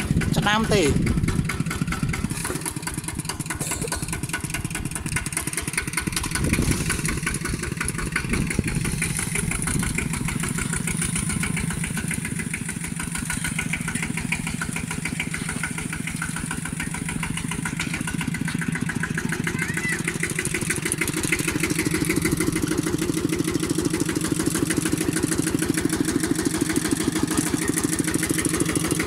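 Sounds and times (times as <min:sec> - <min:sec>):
walking tractor engine running: 0:00.0 - 0:29.0.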